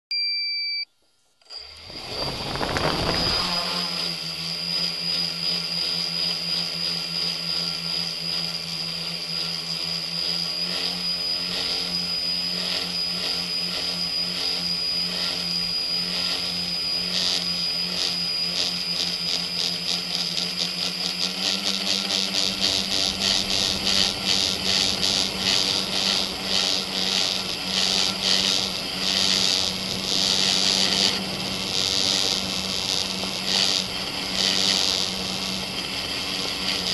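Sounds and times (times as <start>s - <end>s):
electric motors and propellers whining: 1.4s - 36.9s.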